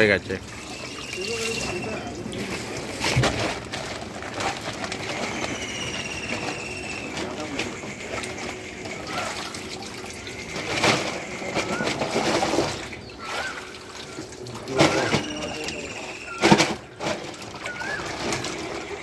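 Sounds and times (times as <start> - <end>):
water splashing in metal tank: 0.0 - 19.0.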